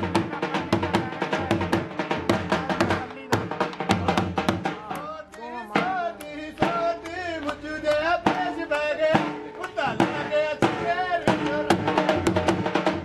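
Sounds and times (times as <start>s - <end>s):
person singing: 0.0s - 12.6s
steady drum beat: 0.0s - 13.0s.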